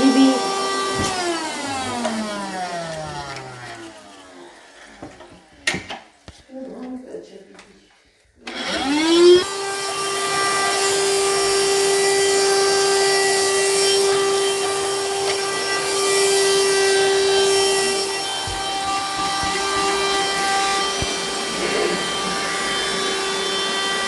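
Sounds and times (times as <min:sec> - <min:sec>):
handheld vacuum cleaner whine: 0:00.0 - 0:06.1, 0:08.4 - 0:24.0.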